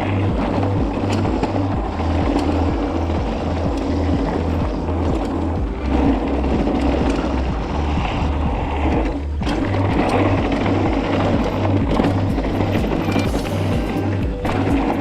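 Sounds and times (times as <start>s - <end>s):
bike rolling and rattling: 0.0s - 15.0s
music with steady bass line: 0.0s - 15.0s.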